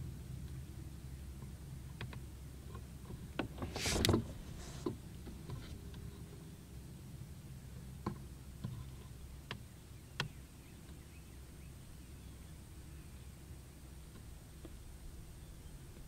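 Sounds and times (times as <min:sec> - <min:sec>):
faint low rumble: 0:00.0 - 0:16.0.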